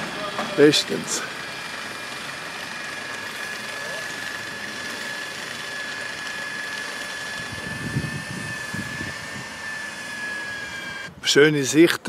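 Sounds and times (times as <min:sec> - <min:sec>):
construction machine whine: 0:00.0 - 0:12.0.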